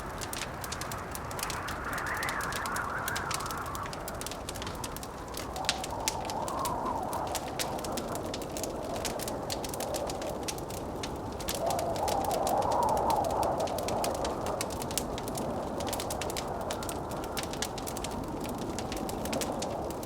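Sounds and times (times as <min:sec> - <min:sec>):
howling blizzard wind: 0:00.0 - 0:20.0
wood fire crackling: 0:00.0 - 0:20.0.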